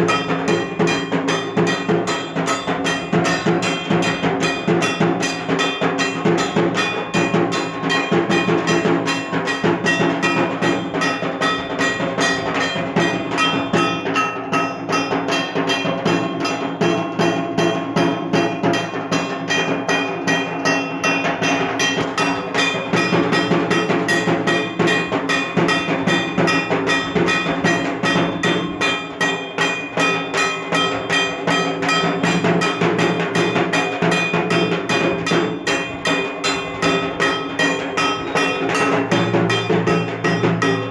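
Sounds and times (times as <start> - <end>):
drums beaten with sticks: 0.0 - 40.9.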